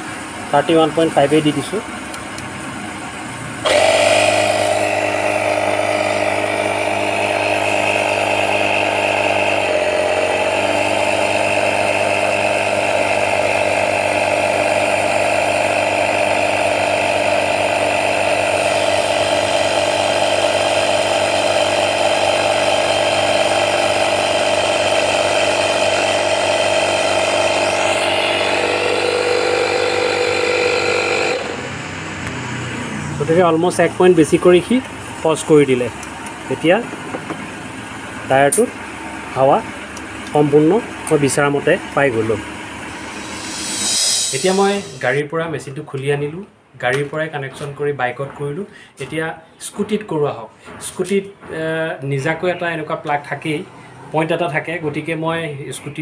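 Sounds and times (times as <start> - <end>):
electric air compressor running: 0.0 - 45.3.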